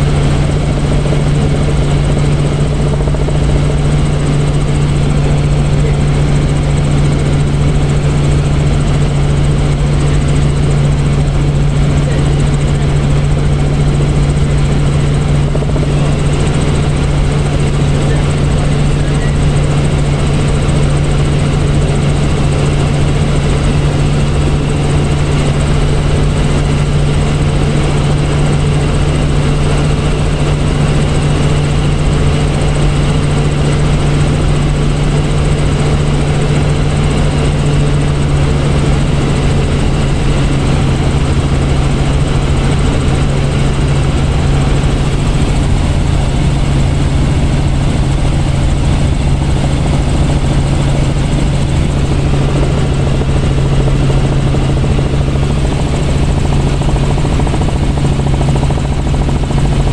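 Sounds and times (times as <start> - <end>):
helicopter cabin drone: 0.0 - 59.9.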